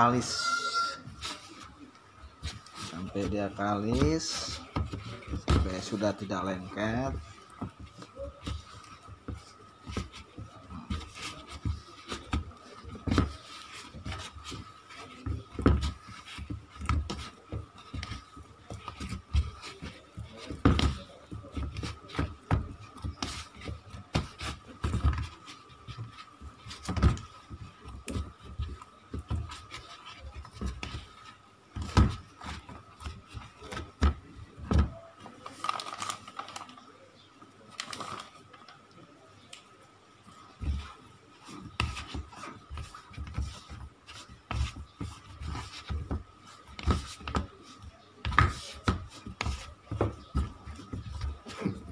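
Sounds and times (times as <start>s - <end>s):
hands kneading dough in plastic bowl: 0.0s - 51.9s.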